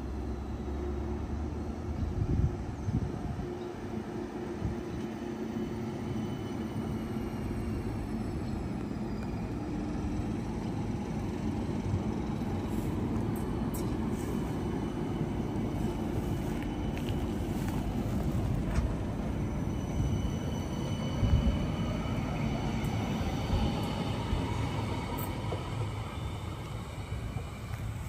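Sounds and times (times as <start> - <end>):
steel wheels rumbling on rail: 0.0 - 28.0.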